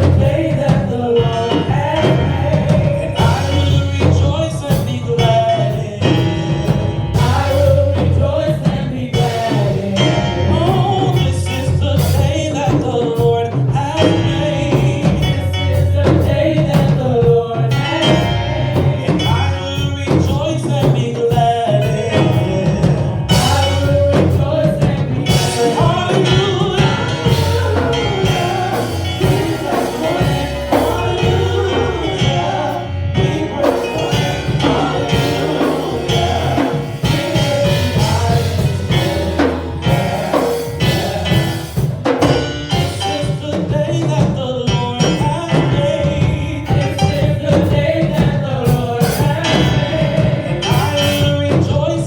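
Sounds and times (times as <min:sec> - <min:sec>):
band with bass and drums: 0:00.0 - 0:52.0
singers: 0:00.0 - 0:52.0.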